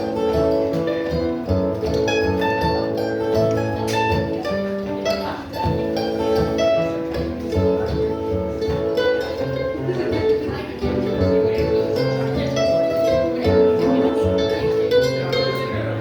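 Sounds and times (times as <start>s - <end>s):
acoustic string band playing: 0.0s - 16.0s.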